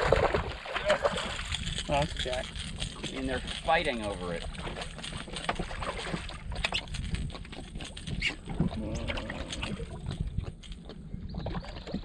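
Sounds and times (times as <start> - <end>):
water lapping against hull: 0.0 - 12.0
wind buffeting microphone: 0.0 - 12.0.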